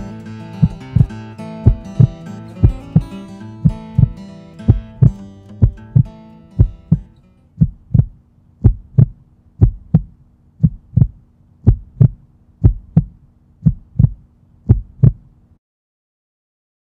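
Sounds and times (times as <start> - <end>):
heartbeat thumps: 0.0 - 15.3.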